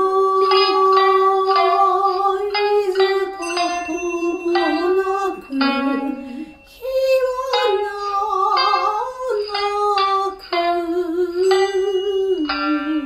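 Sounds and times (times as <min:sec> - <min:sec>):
plucked shamisen: 0:00.0 - 0:13.0.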